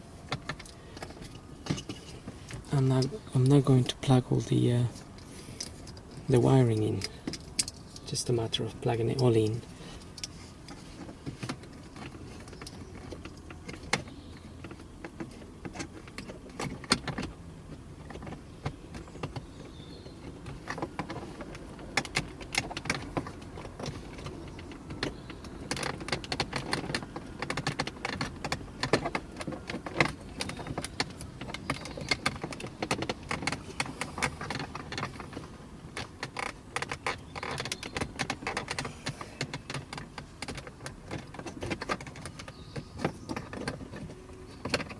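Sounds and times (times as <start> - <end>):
wiring rustling: 0.0 - 44.9.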